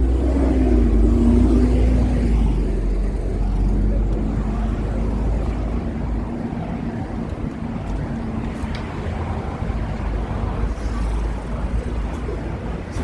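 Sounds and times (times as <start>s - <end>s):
engine hum: 0.0s - 13.0s
traffic rumble: 0.0s - 13.0s.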